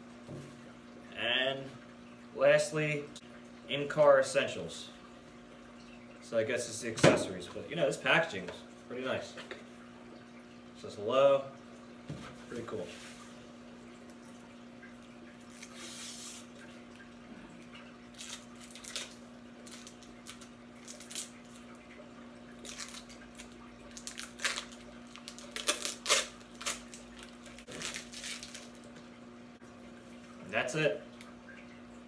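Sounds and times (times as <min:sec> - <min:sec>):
aquarium water trickling: 0:00.0 - 0:32.0.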